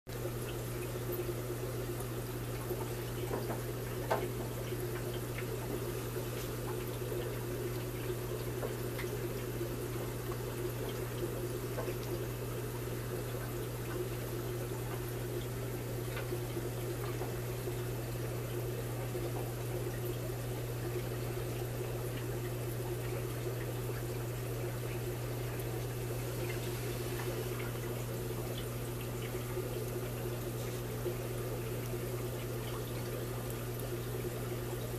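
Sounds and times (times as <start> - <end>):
aquarium equipment humming: 0.1 - 34.9
water trickling and splashing: 0.1 - 34.9.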